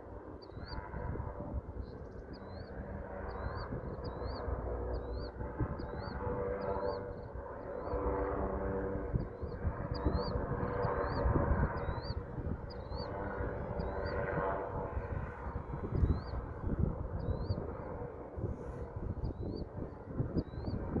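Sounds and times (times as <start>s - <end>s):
wind buffeting microphone: 0.2s - 21.0s.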